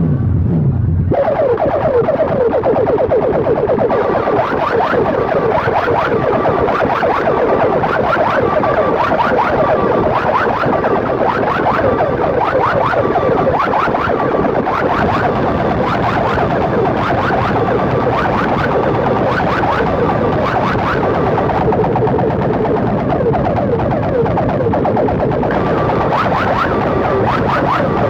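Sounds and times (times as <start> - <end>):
electronic siren-like warble: 0.0 - 28.0.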